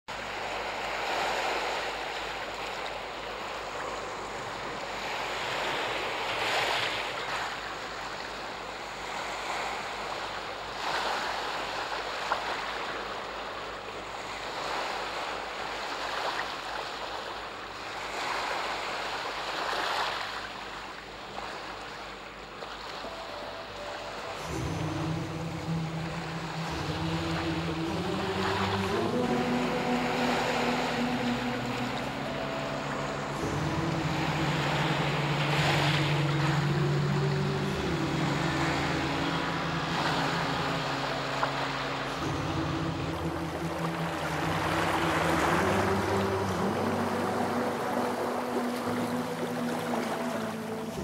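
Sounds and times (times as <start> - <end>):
sea waves washing in: 0.1 - 51.0.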